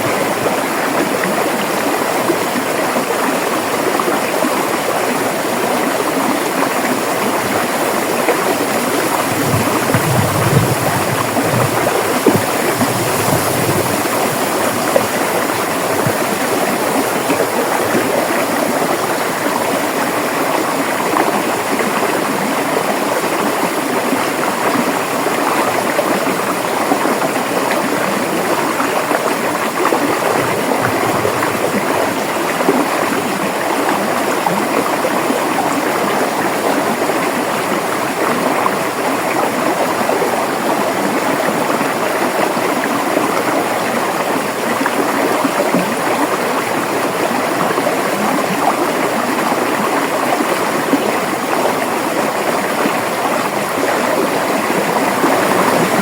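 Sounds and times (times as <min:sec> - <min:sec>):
river water babbling over rocks: 0:00.0 - 0:56.0.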